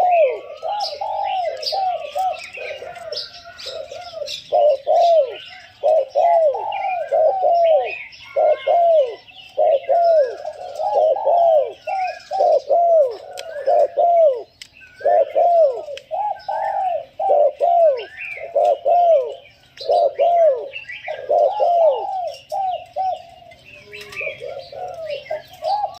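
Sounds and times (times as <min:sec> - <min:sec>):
dove cooing: 0:00.0 - 0:26.0
small birds chirping: 0:00.0 - 0:26.0.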